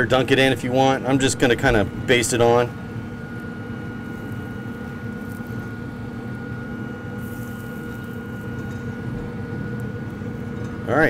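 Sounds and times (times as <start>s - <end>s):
faint high whine: 0.0s - 11.0s
grill fan humming: 0.0s - 11.0s.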